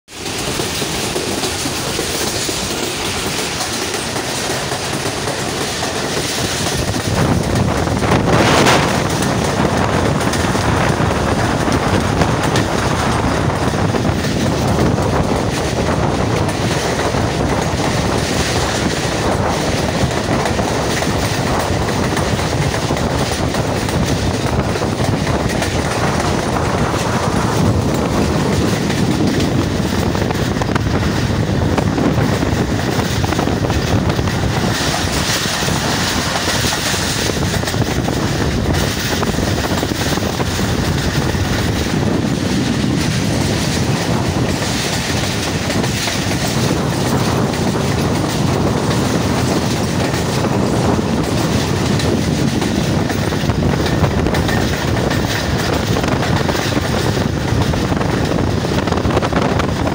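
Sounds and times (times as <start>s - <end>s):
train wheels clattering over rails: 0.1s - 59.9s.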